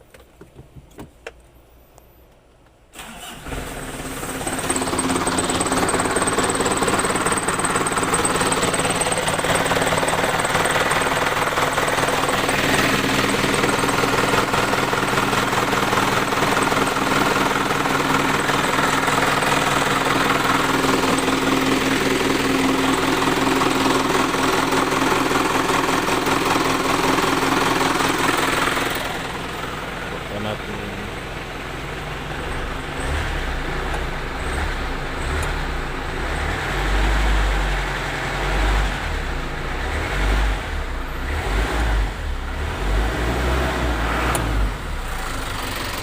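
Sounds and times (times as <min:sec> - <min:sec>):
rattly engine running at raised revs: 0:03.5 - 0:46.0.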